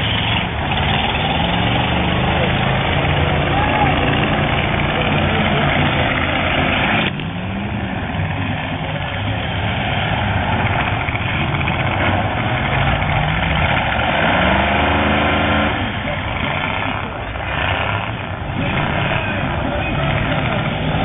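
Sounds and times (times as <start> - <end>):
car engines revving: 0.0 - 21.0
noisy din: 0.0 - 21.0.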